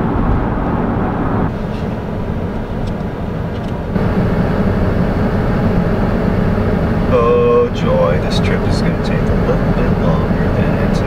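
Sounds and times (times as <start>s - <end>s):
truck road and engine noise: 0.0s - 11.0s.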